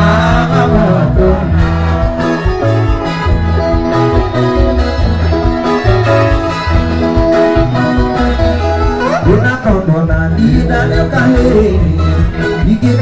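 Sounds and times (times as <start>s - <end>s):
electric guitar lines: 0.0s - 13.0s
pulsing bass beat: 0.0s - 13.0s.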